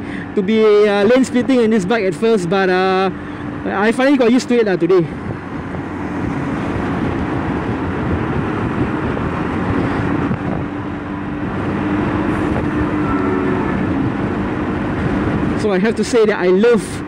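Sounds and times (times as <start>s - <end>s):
scooter engine buzzing hum: 0.0s - 17.0s
wind and road noise: 0.0s - 17.0s.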